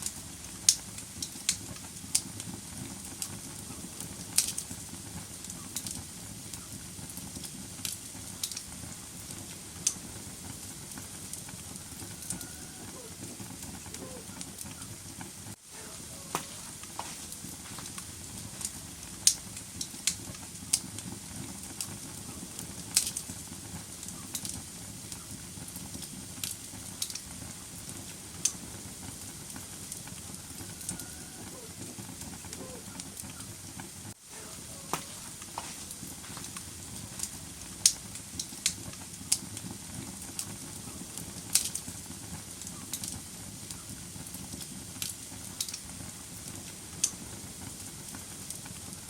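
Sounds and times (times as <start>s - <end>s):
fireplace fire crackling: 0.0s - 49.0s.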